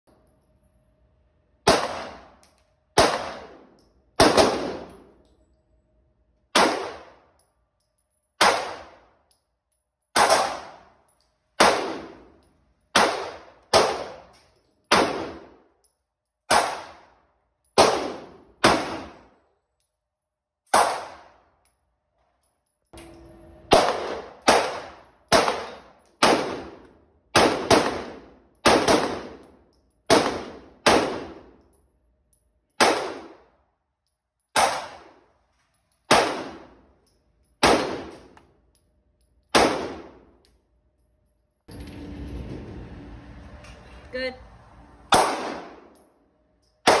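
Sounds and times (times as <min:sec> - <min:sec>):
pistol shots echoing indoors: 0:00.3 - 0:05.7, 0:06.3 - 0:20.0, 0:20.6 - 0:41.7, 0:45.0 - 0:47.0.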